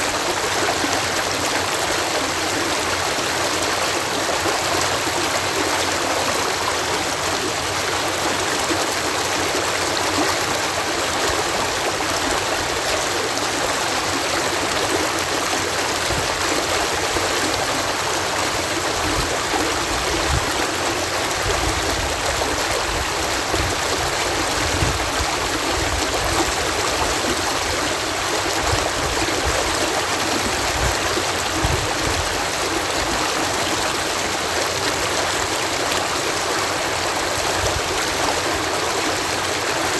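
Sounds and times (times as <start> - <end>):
water rushing through canal lock: 0.0 - 39.9.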